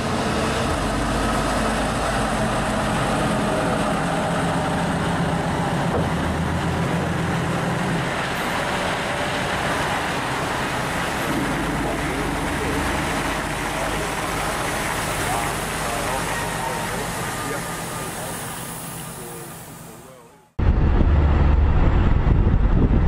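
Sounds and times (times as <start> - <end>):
tyre and road noise: 0.0 - 19.4
diesel truck engine running: 0.0 - 23.0.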